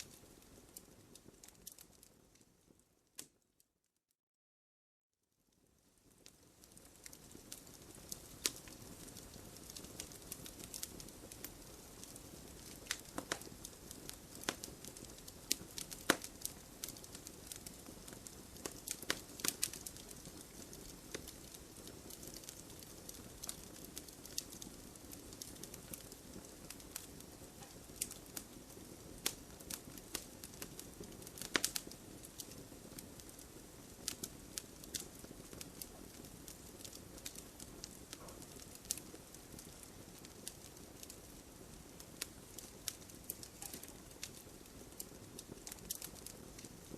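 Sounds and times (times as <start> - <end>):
wood fire crackling: 0.0 - 3.4, 5.5 - 46.9.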